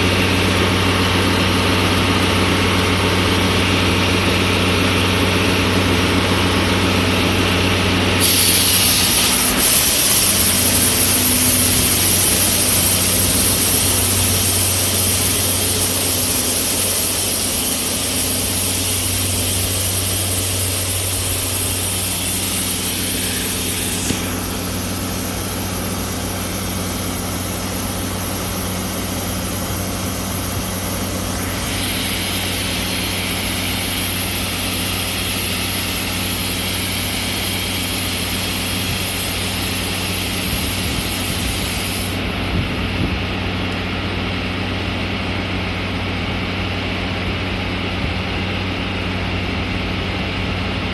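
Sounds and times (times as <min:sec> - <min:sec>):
loud steady hiss: 0:00.0 - 0:50.8
diesel locomotive idling: 0:00.0 - 0:50.9.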